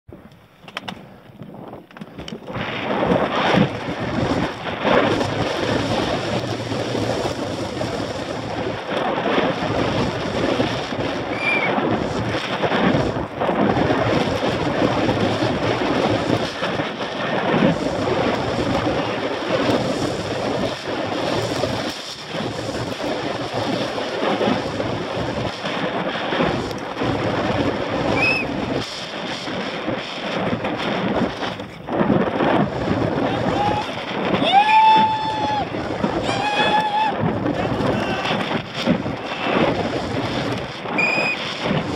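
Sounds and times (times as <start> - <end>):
wind rushing over microphone: 0.1 - 41.9
bike rattling over dirt and rock: 0.2 - 34.4, 35.1 - 41.9.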